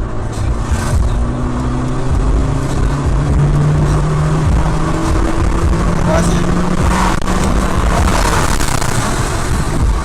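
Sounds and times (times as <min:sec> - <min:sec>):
car engine running: 0:00.0 - 0:10.0
road noise: 0:00.0 - 0:10.0.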